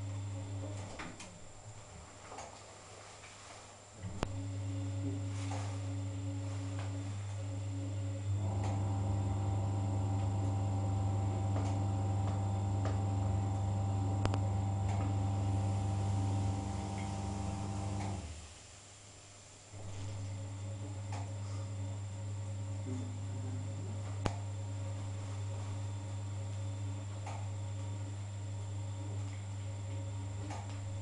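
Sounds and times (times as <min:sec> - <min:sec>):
washing machine humming: 0:00.0 - 0:18.6, 0:19.5 - 0:31.0.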